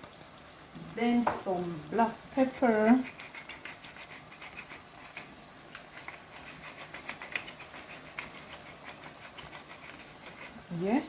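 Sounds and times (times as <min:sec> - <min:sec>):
liver sizzling in a pot: 0:00.0 - 0:11.0.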